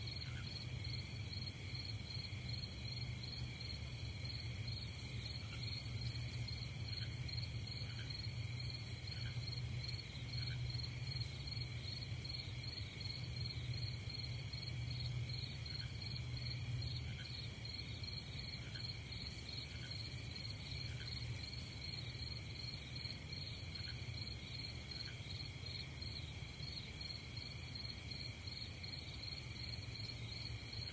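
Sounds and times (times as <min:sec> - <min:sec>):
crickets trilling: 0:00.0 - 0:30.9.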